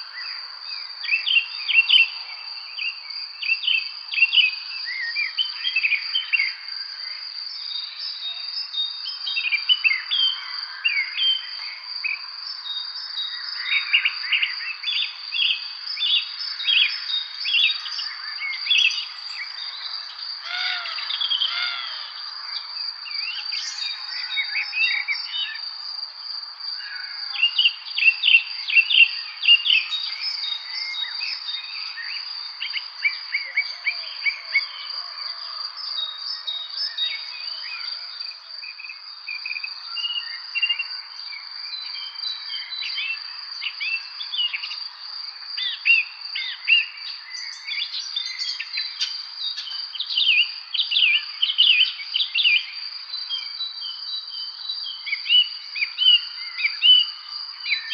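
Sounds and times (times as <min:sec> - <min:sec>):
insect trill: 0:00.0 - 0:57.9
songbirds chirping: 0:00.0 - 0:57.9.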